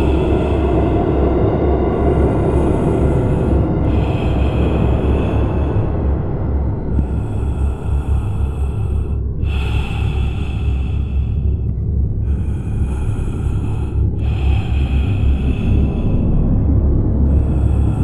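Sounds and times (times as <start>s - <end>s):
low rumbling drone: 0.0s - 18.0s.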